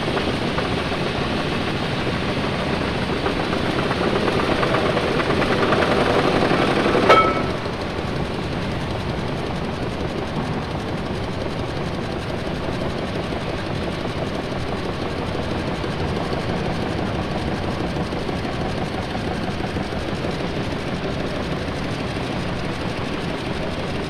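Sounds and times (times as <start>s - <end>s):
steam engine clattering: 0.1s - 24.0s.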